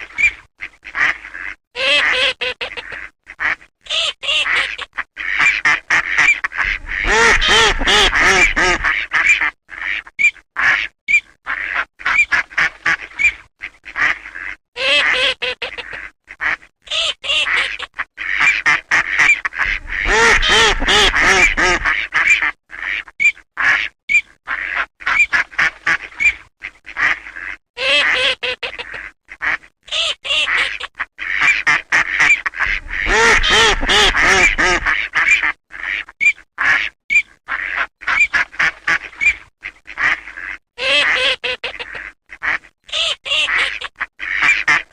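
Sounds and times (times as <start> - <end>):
flock of ducks calling: 0.0 - 44.9.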